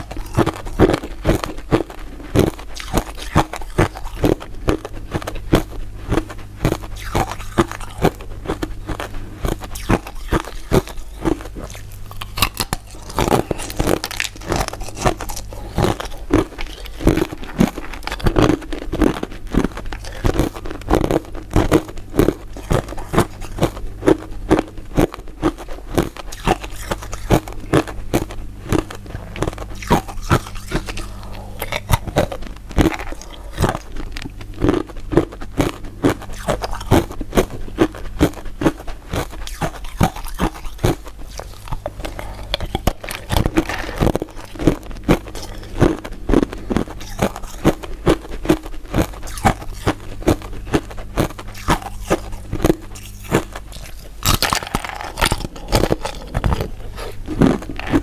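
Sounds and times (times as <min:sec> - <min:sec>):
crunchy chewing: 0:00.0 - 0:58.0
steady low hum: 0:00.0 - 0:58.0.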